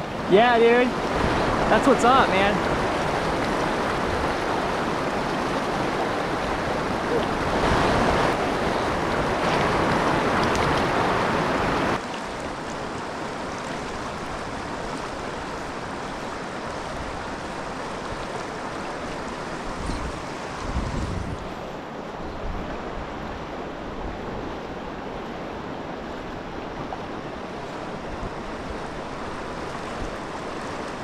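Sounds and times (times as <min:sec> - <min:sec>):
creek water rushing: 0:00.0 - 0:31.0.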